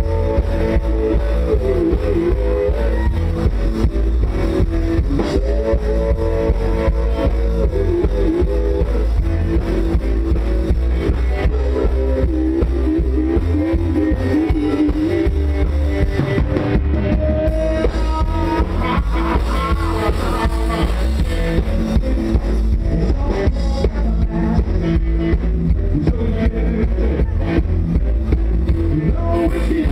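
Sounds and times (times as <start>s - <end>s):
drum kit: 0.0s - 29.9s
guitar: 0.0s - 29.9s
live country rock band: 0.0s - 29.9s.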